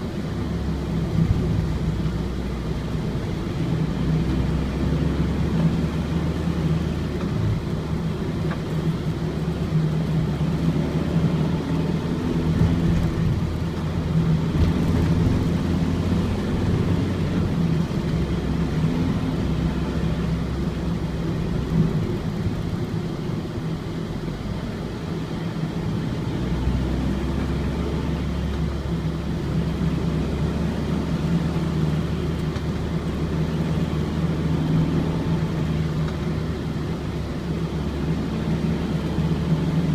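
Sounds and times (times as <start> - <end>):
diesel engine running: 0.0 - 39.9
road noise: 0.0 - 39.9.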